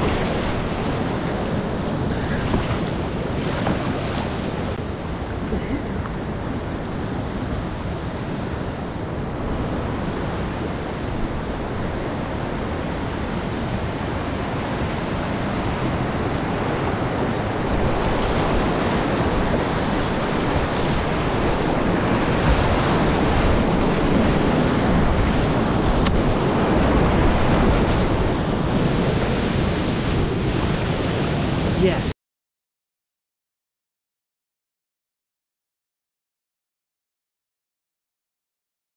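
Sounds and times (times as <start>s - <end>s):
rushing whitewater: 0.0s - 7.0s, 7.6s - 32.1s.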